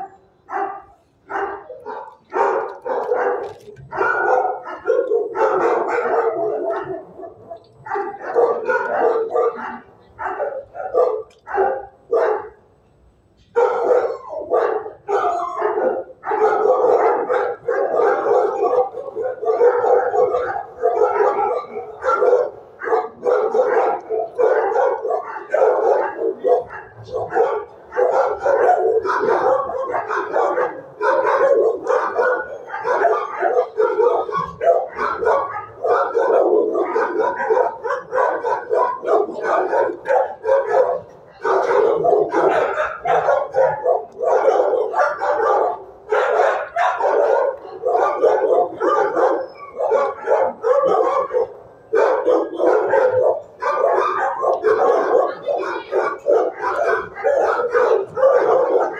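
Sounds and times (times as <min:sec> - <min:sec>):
dogs yipping and howling: 0:00.0 - 0:12.6, 0:13.6 - 0:58.9
dogs barking: 0:00.0 - 0:12.8, 0:13.4 - 0:58.9.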